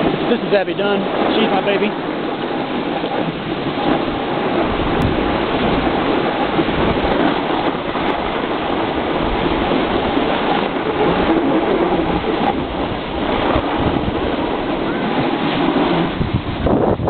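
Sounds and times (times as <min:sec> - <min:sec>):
snowboard scraping packed snow: 0:00.0 - 0:16.9
wind buffeting microphone: 0:00.0 - 0:17.0.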